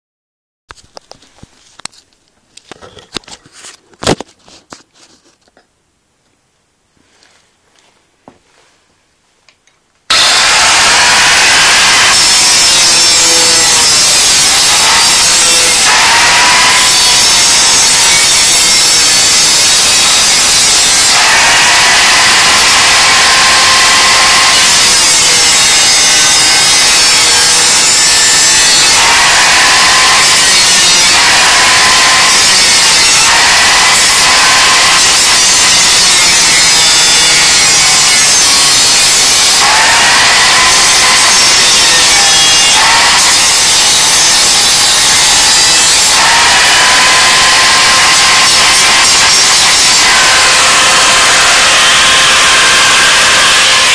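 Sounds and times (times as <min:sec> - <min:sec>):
power tool cutting with motor whine: 0:10.1 - 0:53.9.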